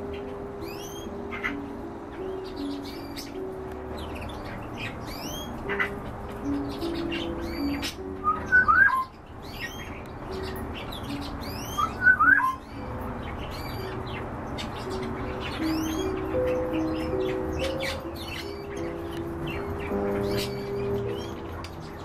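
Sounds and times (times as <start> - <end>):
birds chirping: 0.0 - 22.0
slow low background music: 0.0 - 22.0.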